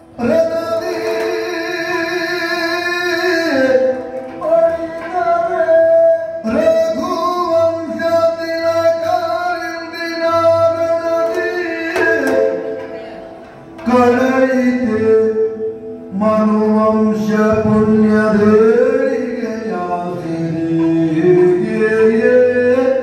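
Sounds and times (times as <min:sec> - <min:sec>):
man singing long held notes: 0:00.0 - 0:12.8, 0:13.8 - 0:23.0.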